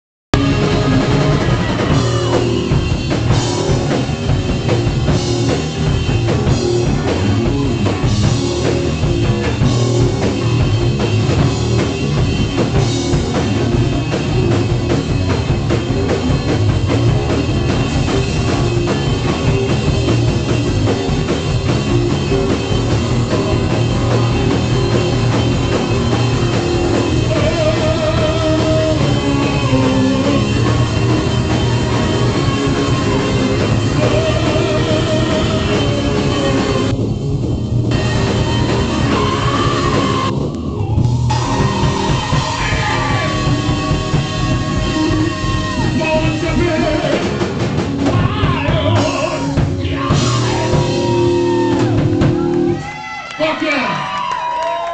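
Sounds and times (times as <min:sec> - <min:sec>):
rock band playing live: 0:00.3 - 0:54.9.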